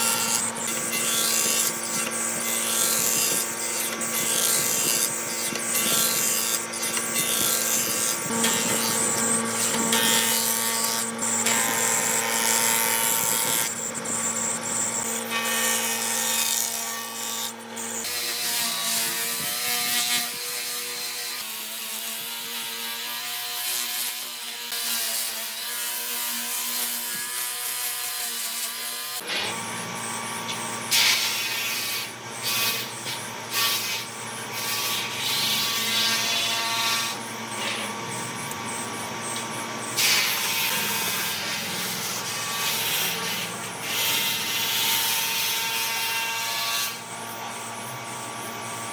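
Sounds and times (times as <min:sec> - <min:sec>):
power tool motor hum: 0:00.0 - 0:48.9
tool grinding wood: 0:00.0 - 0:48.9.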